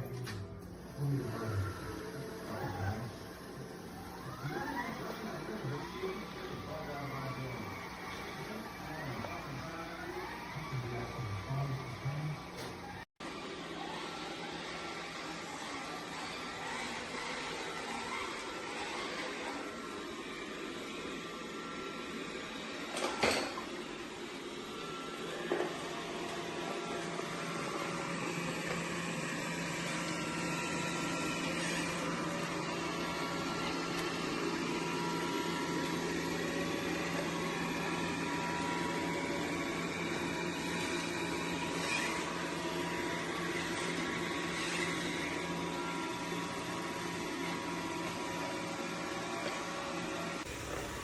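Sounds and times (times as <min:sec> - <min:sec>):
robot vacuum motor hum: 0:00.0 - 0:51.0.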